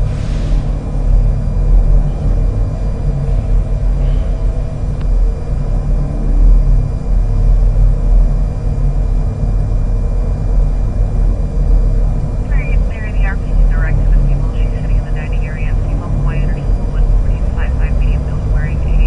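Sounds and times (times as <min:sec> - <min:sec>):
faint steady hum: 0:00.0 - 0:19.0
steady low rumble: 0:00.0 - 0:19.0.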